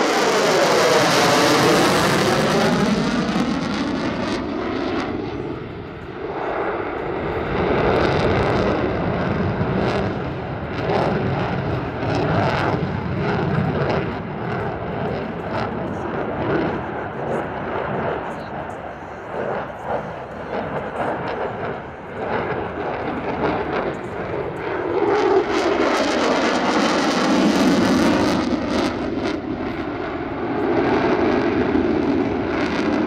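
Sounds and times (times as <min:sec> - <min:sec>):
crackling jet rumble: 0:00.0 - 0:33.0
fighter jet flying past: 0:00.0 - 0:33.0.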